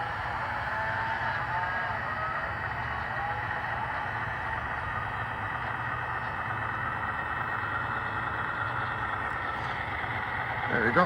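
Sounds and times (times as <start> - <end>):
diesel engine sound from small speaker: 0.0 - 11.0.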